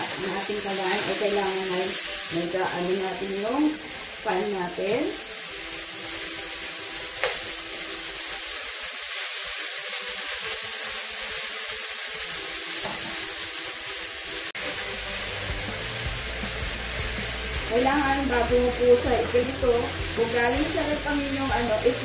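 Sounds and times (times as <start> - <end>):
steak sizzling in frying pan: 0.0 - 22.0.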